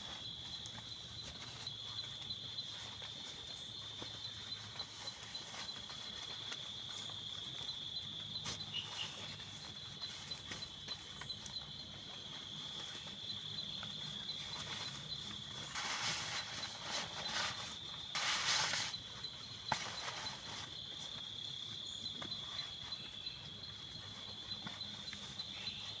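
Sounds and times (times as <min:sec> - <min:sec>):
rustling: 0:00.0 - 0:21.2.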